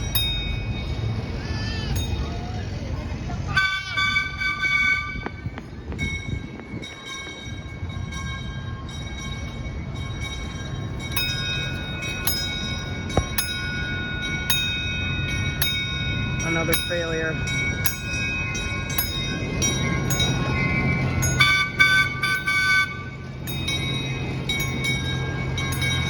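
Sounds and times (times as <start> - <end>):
crossing signal bell ringing: 0.0 - 26.0
miniature train rumbling: 0.0 - 26.0.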